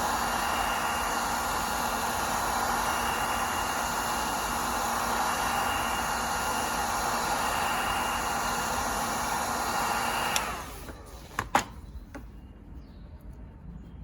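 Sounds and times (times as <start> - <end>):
heat gun blowing hiss: 0.0 - 11.6.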